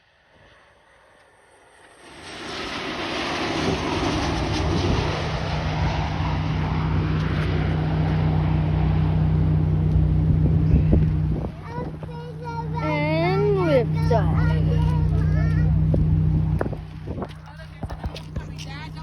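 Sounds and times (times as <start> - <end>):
airplane engines droning: 0.0 - 19.0.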